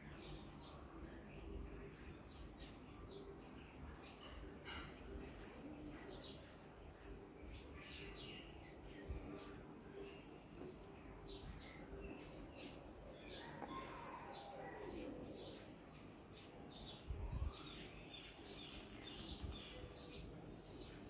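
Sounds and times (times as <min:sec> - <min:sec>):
low background noise: 0:00.0 - 0:21.0
small birds chirping: 0:00.0 - 0:21.0.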